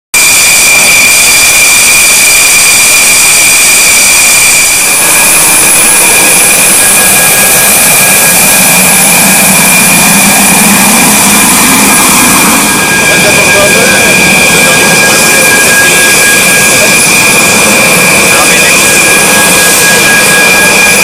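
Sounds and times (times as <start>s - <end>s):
jet engine whine: 0.2s - 21.0s
low hum: 0.2s - 21.0s
rushing hiss: 0.3s - 21.0s.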